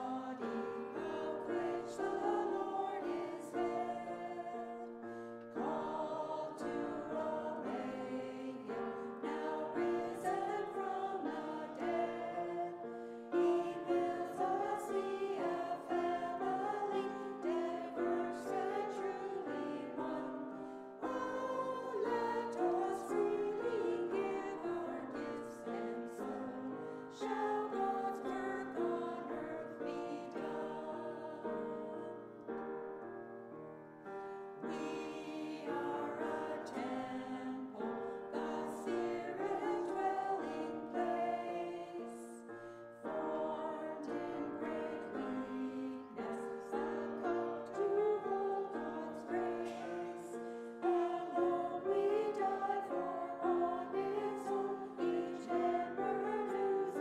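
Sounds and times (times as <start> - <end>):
voices singing a hymn: 0.0 - 33.0, 34.1 - 57.0
piano accompaniment: 0.0 - 57.0.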